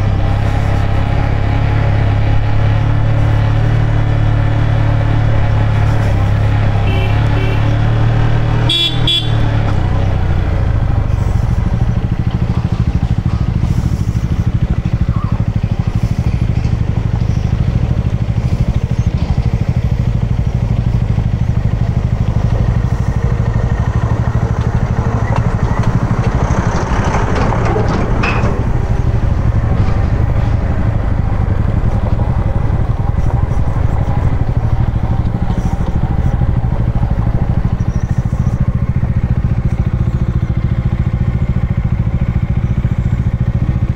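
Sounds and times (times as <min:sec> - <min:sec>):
motorcycle engine running: 0:00.0 - 0:43.9
tyres on gravelly road: 0:00.0 - 0:43.9.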